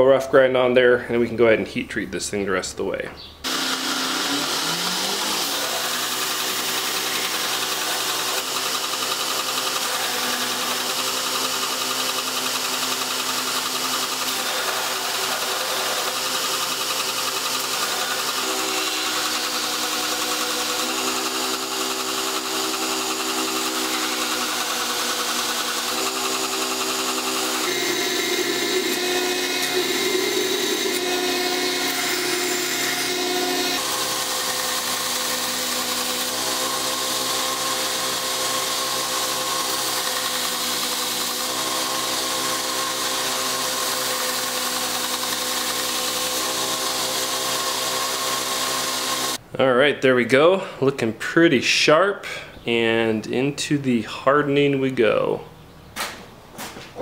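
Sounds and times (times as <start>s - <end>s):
belt grinder grinding steel: 3.4s - 49.4s.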